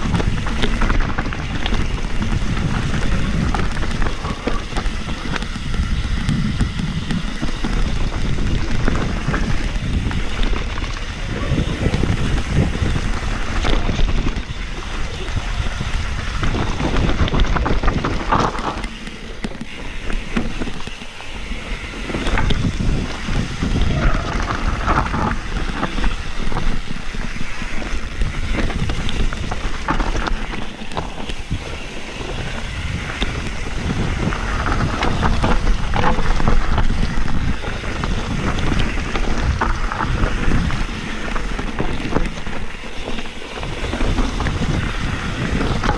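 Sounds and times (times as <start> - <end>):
bike rattling on dirt trail: 0.0 - 45.9
wind buffeting microphone: 0.0 - 45.9.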